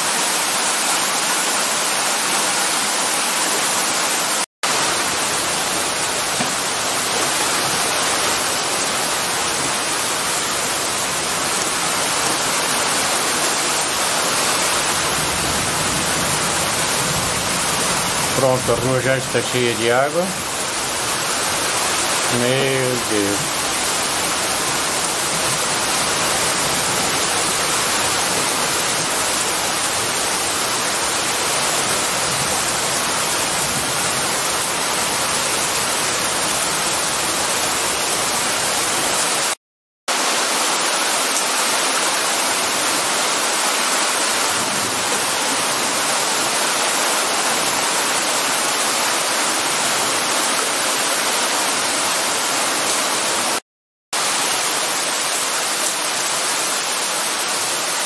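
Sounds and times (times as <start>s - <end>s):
heavy rain pouring: 0.0s - 53.6s, 54.2s - 58.0s.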